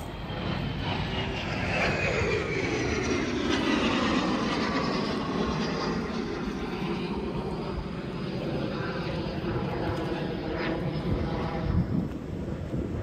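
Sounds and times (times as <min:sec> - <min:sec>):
aircraft flying past: 0:00.0 - 0:13.0.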